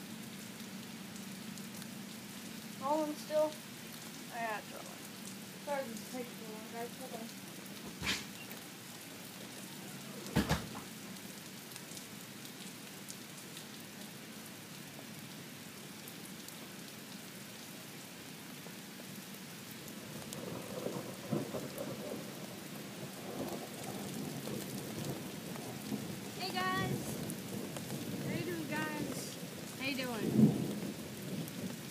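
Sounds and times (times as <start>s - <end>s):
rain falling: 0.0s - 31.9s.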